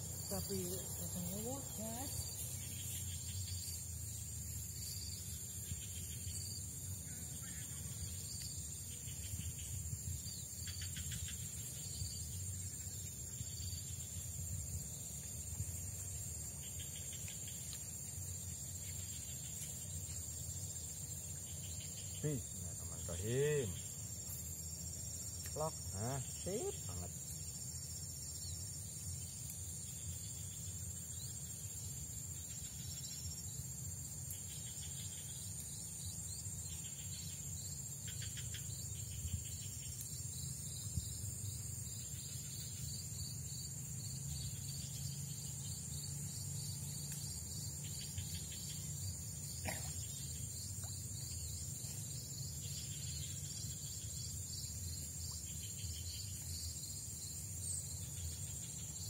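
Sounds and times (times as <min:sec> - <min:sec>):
crickets and insects chirping: 0:00.0 - 0:59.0.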